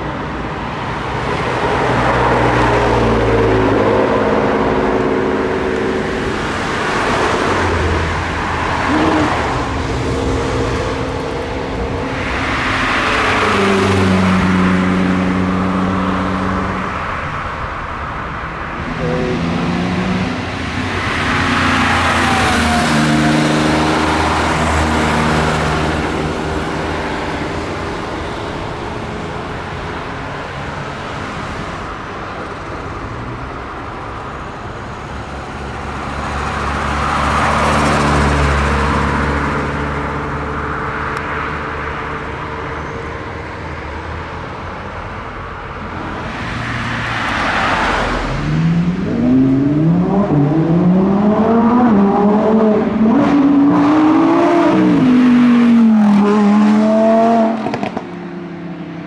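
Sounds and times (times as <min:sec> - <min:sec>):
car engines passing: 0:00.0 - 0:59.0.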